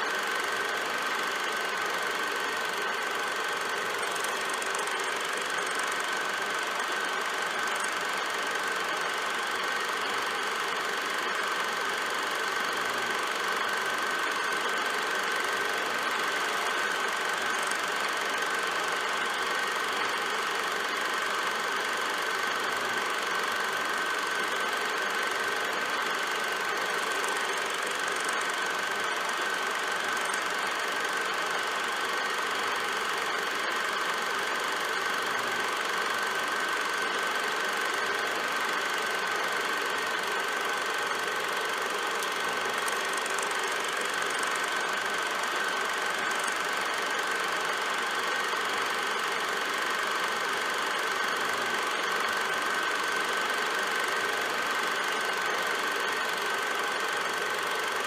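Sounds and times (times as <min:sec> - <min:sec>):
film projector whirring and clattering: 0:00.0 - 0:58.0.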